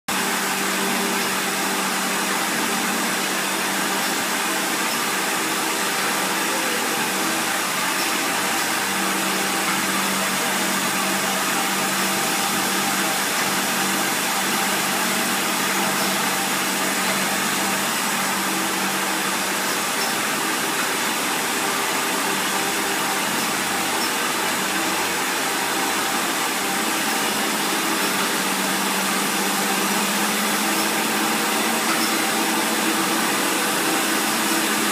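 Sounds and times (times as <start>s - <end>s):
filling machine motor hum: 0.1s - 34.9s.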